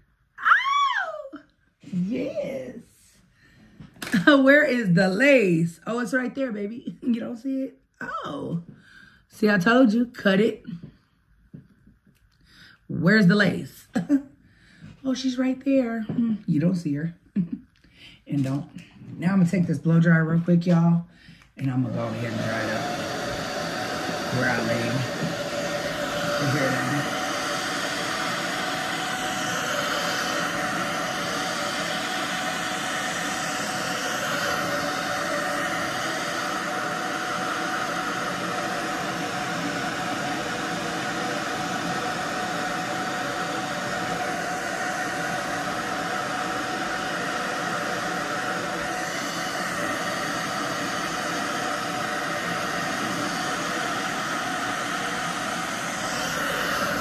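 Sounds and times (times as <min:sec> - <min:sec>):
hair dryer blowing air: 0:00.0 - 0:07.6, 0:08.2 - 0:11.0, 0:12.9 - 0:14.2, 0:14.8 - 0:17.6, 0:18.2 - 0:57.0.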